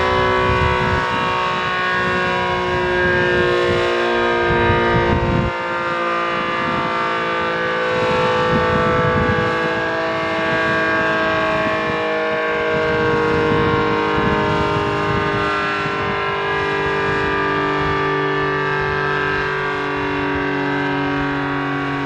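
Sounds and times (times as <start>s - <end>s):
outdoor warning siren: 0.0s - 22.0s.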